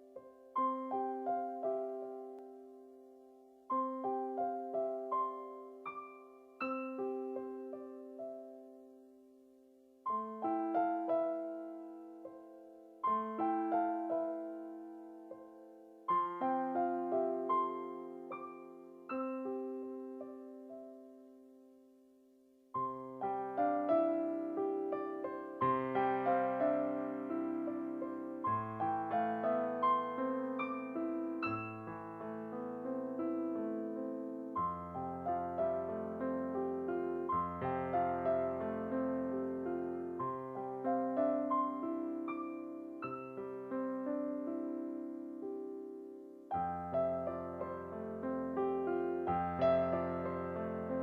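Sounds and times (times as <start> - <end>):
slow piano melody: 0.0 - 51.0.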